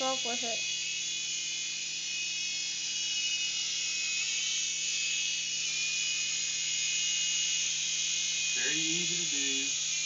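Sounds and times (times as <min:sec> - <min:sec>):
toy helicopter whirring: 0:00.0 - 0:10.0.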